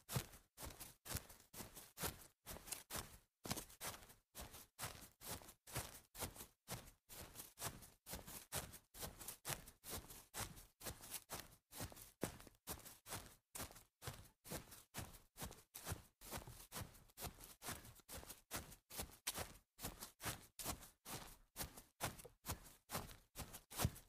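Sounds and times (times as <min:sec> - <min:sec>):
footsteps on grass: 0:00.2 - 0:06.5, 0:07.2 - 0:24.0.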